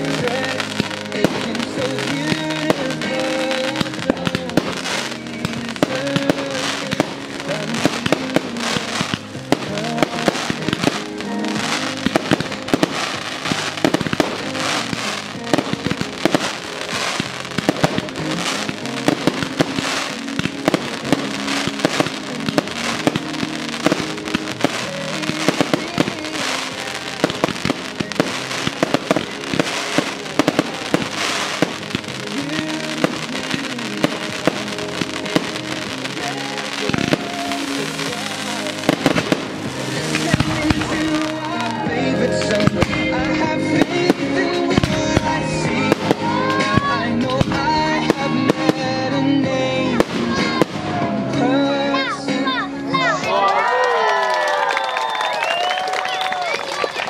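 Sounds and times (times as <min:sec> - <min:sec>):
fireworks bursting: 0:00.0 - 0:53.2, 0:54.0 - 0:57.0
music playing: 0:00.0 - 0:57.0.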